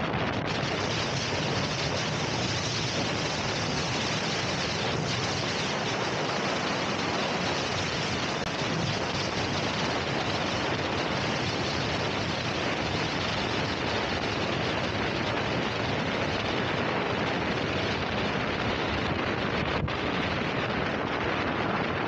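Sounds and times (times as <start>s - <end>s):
wind rush on microphone: 0.0s - 22.0s.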